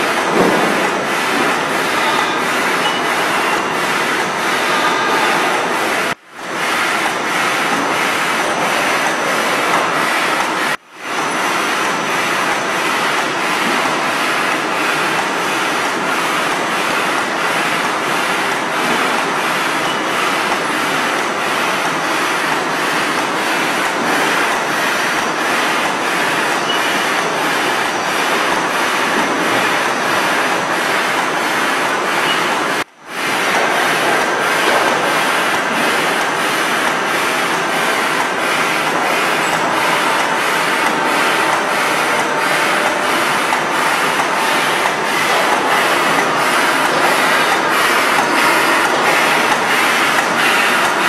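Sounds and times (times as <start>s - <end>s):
machinery clatter and whir: 0.0s - 51.0s.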